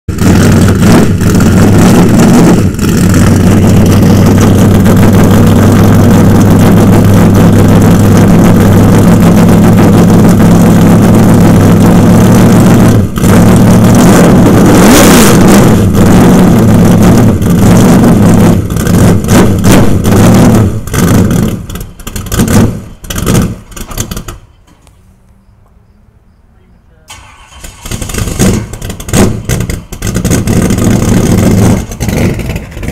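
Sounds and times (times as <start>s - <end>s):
race car engine idling and revving: 0.0s - 25.8s, 27.2s - 32.9s.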